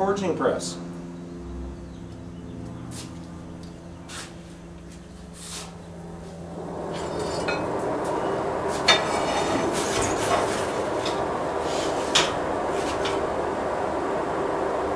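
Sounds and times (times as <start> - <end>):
forge blower and fire rushing: 0.0 - 14.9.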